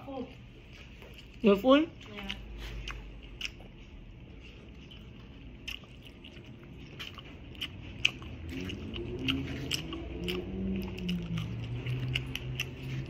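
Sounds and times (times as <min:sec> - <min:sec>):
chewing: 0:00.6 - 0:13.0.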